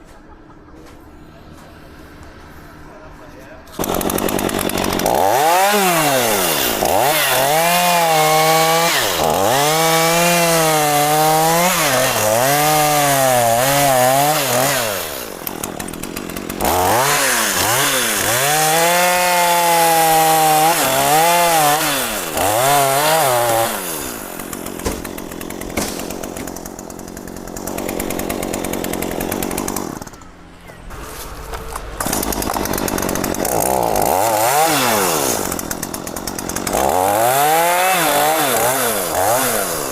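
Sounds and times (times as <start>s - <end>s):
chainsaw cutting wood: 3.8s - 30.3s, 30.9s - 39.9s.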